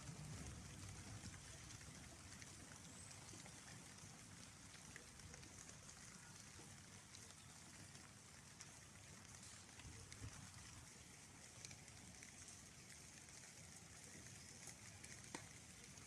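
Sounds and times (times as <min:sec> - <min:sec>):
faint rain falling: 0:00.0 - 0:16.0
raindrop ticks: 0:00.0 - 0:16.0.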